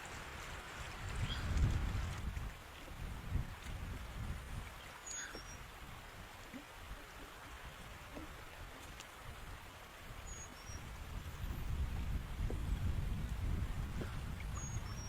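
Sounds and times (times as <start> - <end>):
wind gusting on microphone: 0.0 - 4.8, 7.6 - 15.0.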